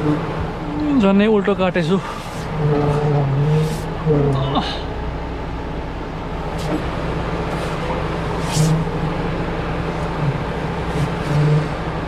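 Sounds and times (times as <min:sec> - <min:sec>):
diesel truck engine reversing: 0:00.0 - 0:12.0.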